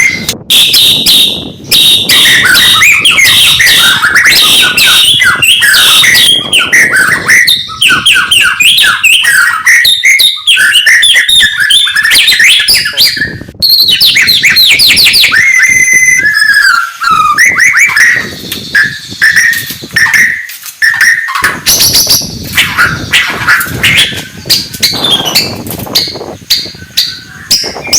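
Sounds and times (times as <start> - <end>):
songbird singing whistled phrases: 0.0 - 27.9.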